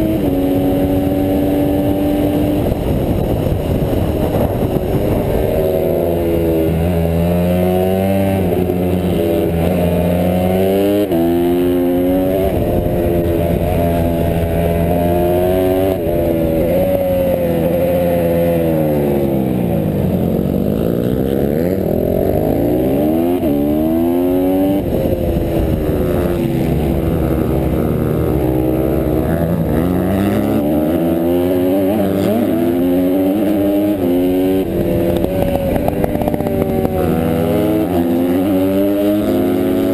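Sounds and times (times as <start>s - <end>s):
motorbike engine revving hard: 0.0s - 39.9s.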